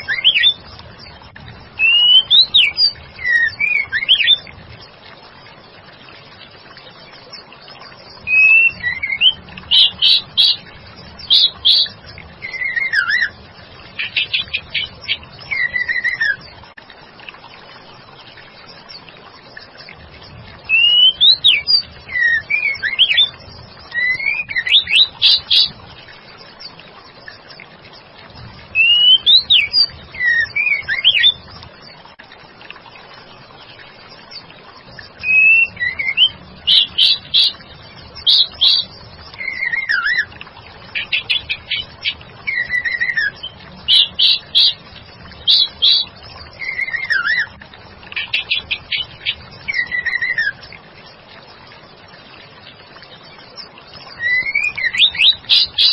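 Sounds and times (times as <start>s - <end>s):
faint steady hiss: 0.0s - 55.9s.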